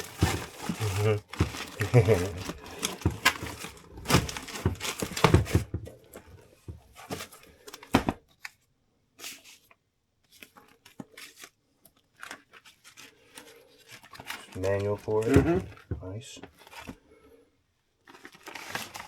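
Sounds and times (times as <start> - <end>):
papers crinkling and rustling: 0.0 - 17.1, 18.0 - 19.0.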